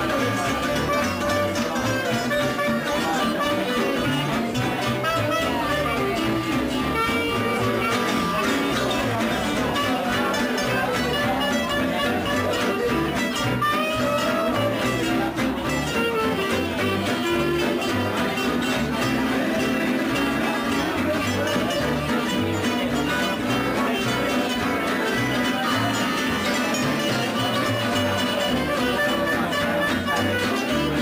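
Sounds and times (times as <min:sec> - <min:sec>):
acoustic guitars strumming rhythm: 0:00.0 - 0:31.0
clarinet melody: 0:00.0 - 0:31.0.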